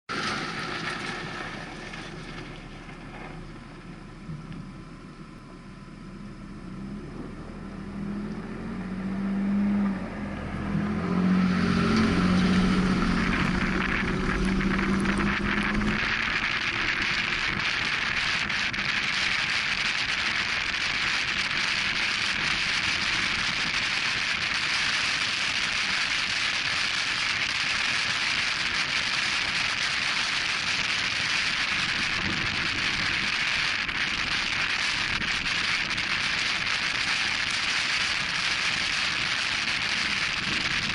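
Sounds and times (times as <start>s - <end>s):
truck engine accelerating: 0.1s - 40.9s
wind noise on microphone: 8.0s - 40.9s.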